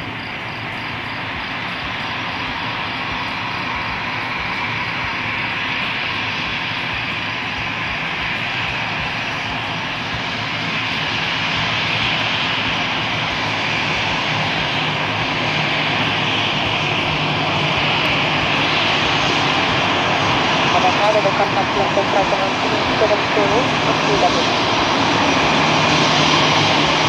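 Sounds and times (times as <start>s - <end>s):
jet engines running: 0.0s - 27.0s.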